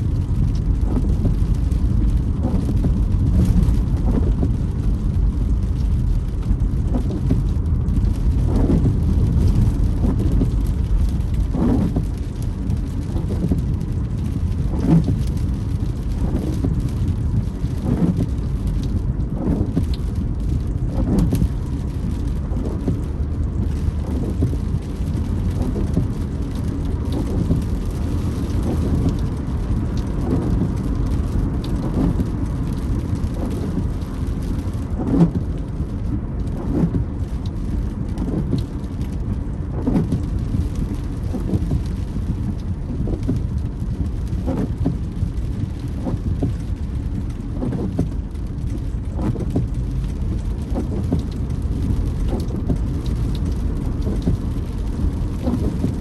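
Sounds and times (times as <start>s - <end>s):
car driving on wet road: 0.0s - 56.0s
windscreen wipers squeaking: 0.3s - 56.0s.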